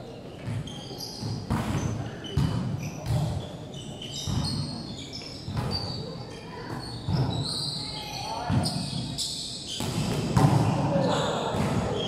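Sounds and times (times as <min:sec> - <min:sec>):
shoes squeaking on court floor: 0:00.2 - 0:12.0.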